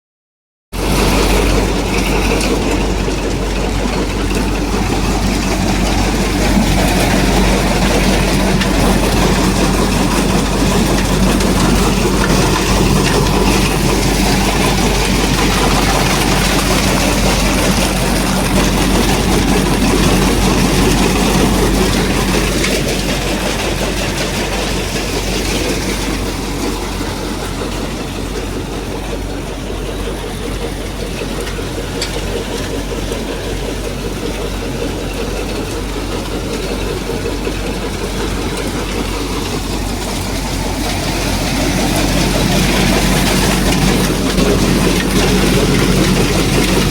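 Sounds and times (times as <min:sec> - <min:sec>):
thresher mechanical drone: 0:00.8 - 0:46.9.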